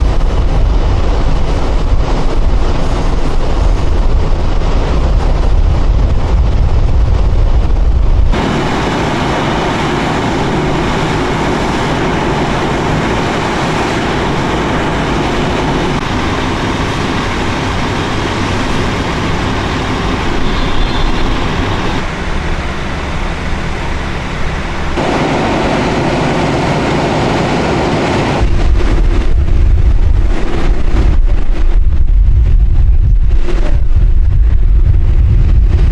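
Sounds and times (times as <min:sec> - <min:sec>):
vehicle rumbling: 0:00.0 - 0:35.9.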